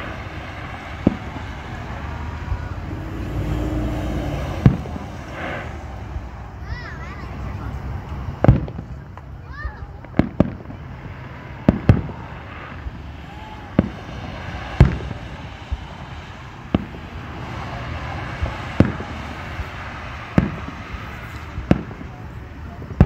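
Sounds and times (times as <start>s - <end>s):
firework shells booming: 0.0s - 23.0s.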